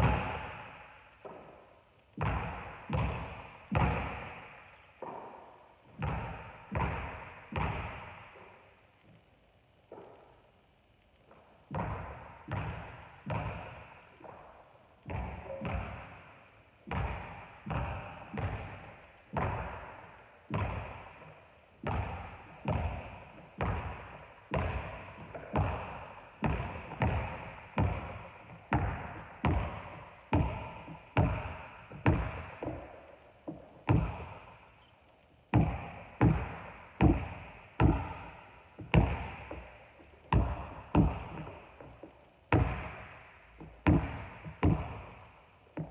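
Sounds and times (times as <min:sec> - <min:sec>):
basketball bouncing on wooden floor: 0:00.0 - 0:08.5, 0:09.9 - 0:10.2, 0:11.3 - 0:34.9, 0:35.5 - 0:45.9.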